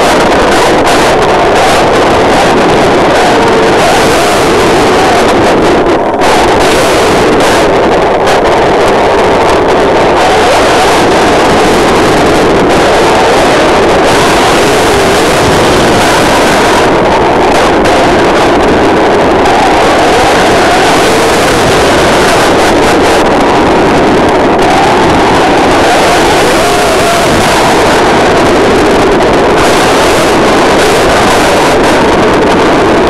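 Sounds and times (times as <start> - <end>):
wind and water spray on mic: 0.0 - 33.0.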